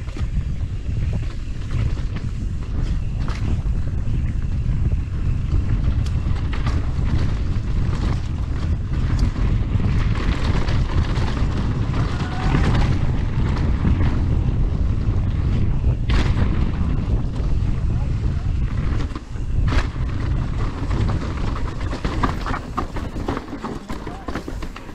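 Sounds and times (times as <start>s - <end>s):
bike rattling over bumps: 0.0s - 24.9s
tyres rolling on dirt: 0.0s - 24.9s
wind buffeting microphone: 0.0s - 24.9s.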